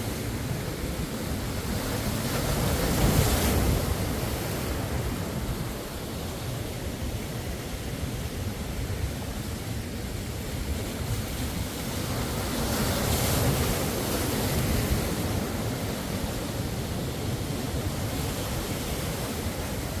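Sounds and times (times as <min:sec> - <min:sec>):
ocean surf: 0:00.0 - 0:20.0.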